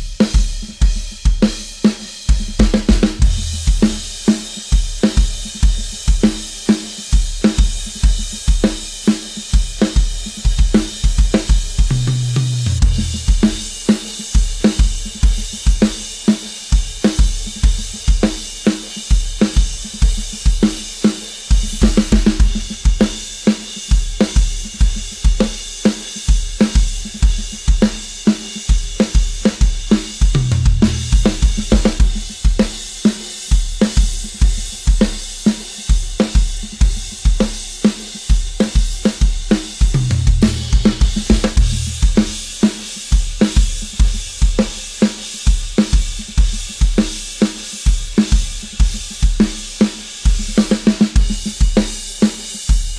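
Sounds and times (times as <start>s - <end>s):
drum kit fast beat: 0.0s - 52.9s.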